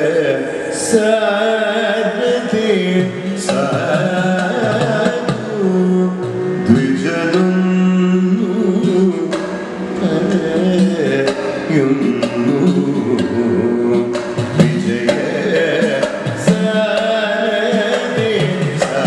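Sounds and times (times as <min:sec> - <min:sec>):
drum strokes: 0:00.0 - 0:19.0
man singing: 0:00.0 - 0:19.0.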